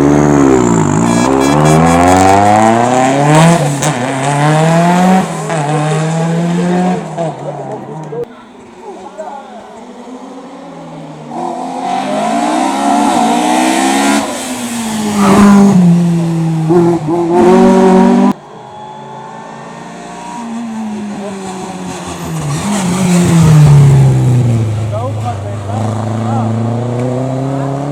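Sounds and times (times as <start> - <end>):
approaching car engine: 0.0 - 27.9
race car engine revving: 0.0 - 27.9.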